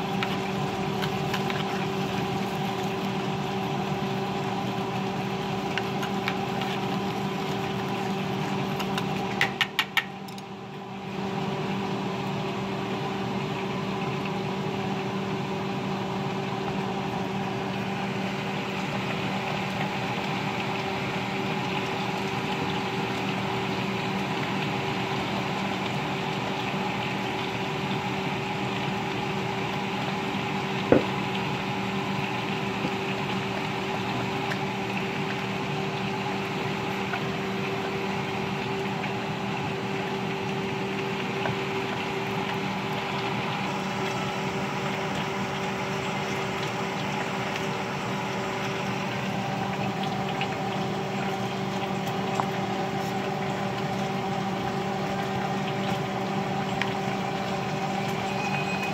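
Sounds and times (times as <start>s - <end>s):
machine hum: 0.0s - 58.9s.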